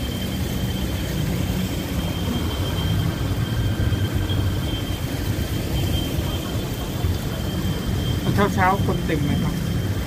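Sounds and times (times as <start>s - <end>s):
boat low rumble: 0.0s - 10.0s
faint high whine: 0.0s - 10.0s.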